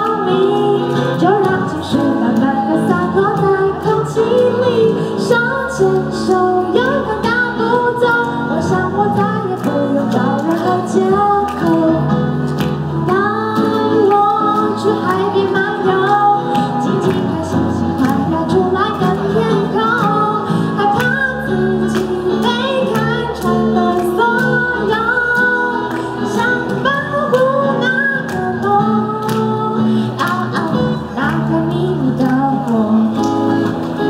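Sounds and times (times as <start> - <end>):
band with amplified keyboard: 0.0 - 34.0
woman singing into a microphone: 0.0 - 34.0.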